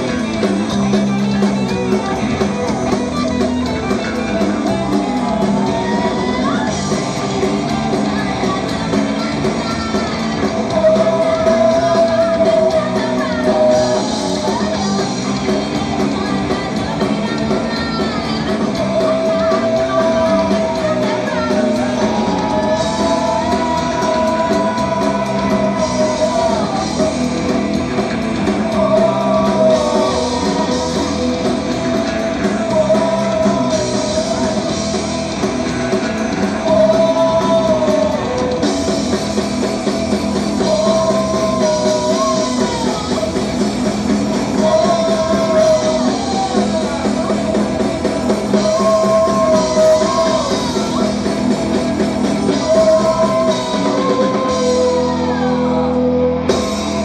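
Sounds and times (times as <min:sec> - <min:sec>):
drum kit: 0:00.0 - 0:57.0
electric guitars: 0:00.0 - 0:57.0
person singing: 0:00.0 - 0:57.0.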